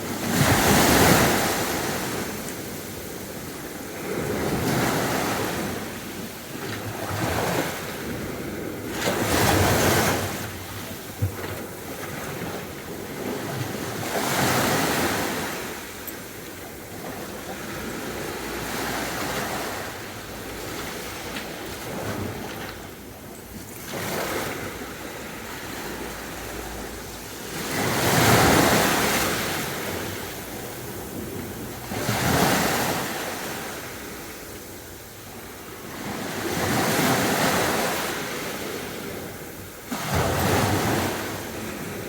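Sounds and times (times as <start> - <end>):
sea waves breaking on beach: 0.0 - 42.0.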